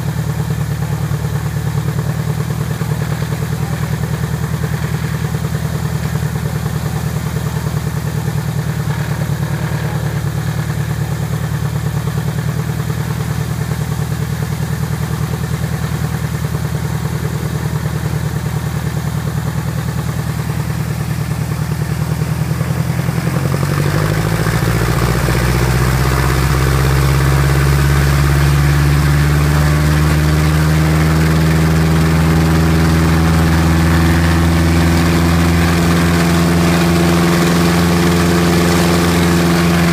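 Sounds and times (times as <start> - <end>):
piston aircraft engines running: 0.0 - 39.9.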